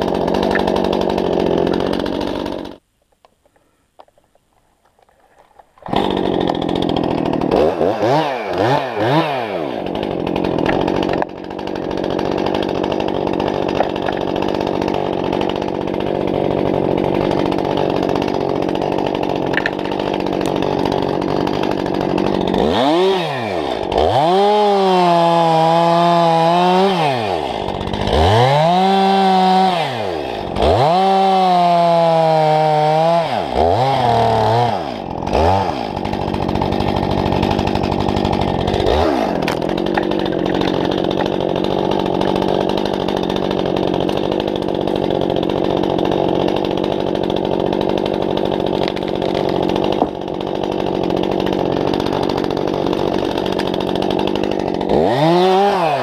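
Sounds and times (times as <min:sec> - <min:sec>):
chainsaw revving: 0:00.0 - 0:02.8, 0:05.6 - 0:56.0.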